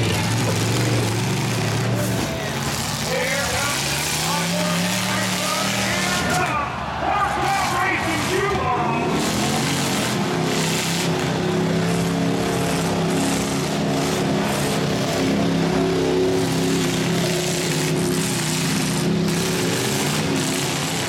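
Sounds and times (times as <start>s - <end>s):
arena crowd noise: 0.0s - 21.0s
truck engines running: 0.0s - 21.0s.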